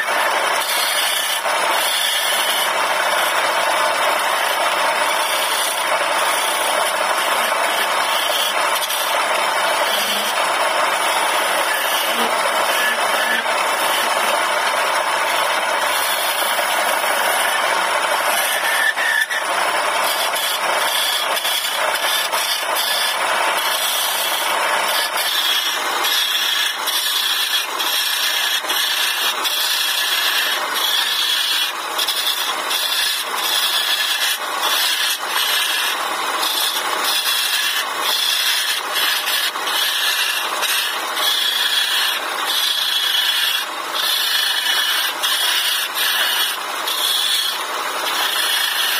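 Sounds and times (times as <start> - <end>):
chisel rasping on spinning wood: 0.0 - 48.9
lathe motor hum: 0.0 - 48.9.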